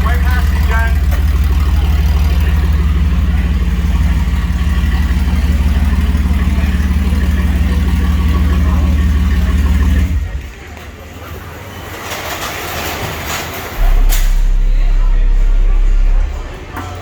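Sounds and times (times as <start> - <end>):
loud subwoofer bass tone: 0.0 - 10.4, 13.8 - 17.0.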